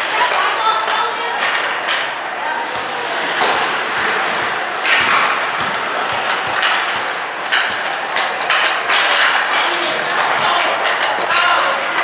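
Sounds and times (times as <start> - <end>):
hockey sticks and puck clacking: 0.0 - 12.0
skates scraping ice: 0.3 - 12.0.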